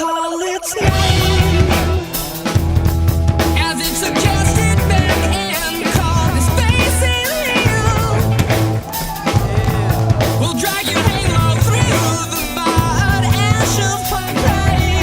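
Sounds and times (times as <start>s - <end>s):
rock music: 0.4s - 15.0s
bending electric guitar: 0.6s - 15.0s.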